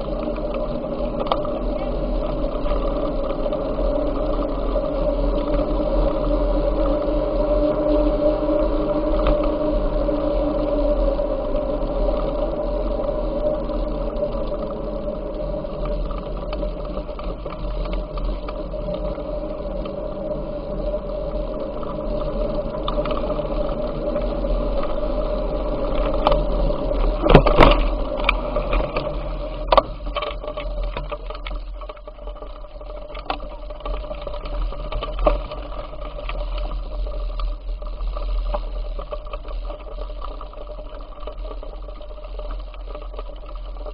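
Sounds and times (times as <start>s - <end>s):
bicycle drivetrain whirring: 0.0s - 43.9s
low hum: 0.0s - 43.9s.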